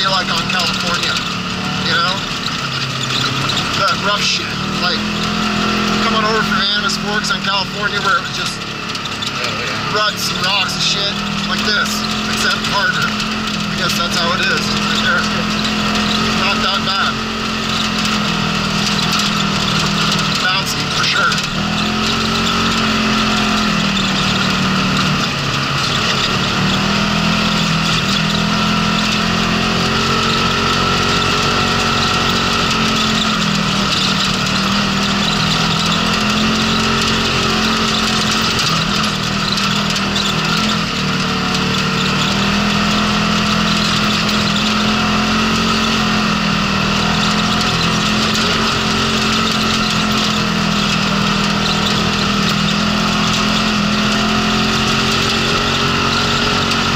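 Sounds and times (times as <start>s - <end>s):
off-road vehicle engine: 0.0s - 56.9s
tyres on gravel: 0.0s - 56.9s.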